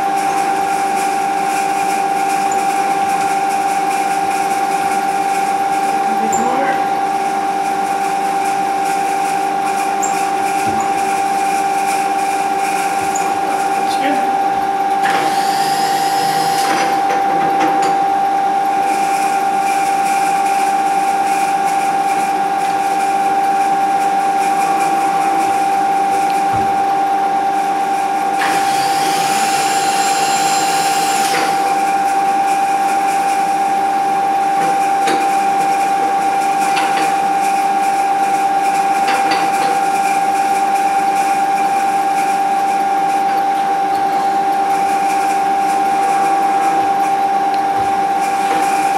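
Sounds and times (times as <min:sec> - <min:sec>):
higher motor whine: 0:00.0 - 0:48.9
milling machine spindle whine: 0:00.0 - 0:48.9.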